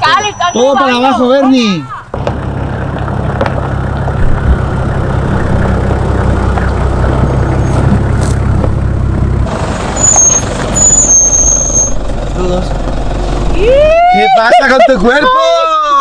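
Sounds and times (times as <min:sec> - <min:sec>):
vehicle engine idling: 0:00.0 - 0:15.8.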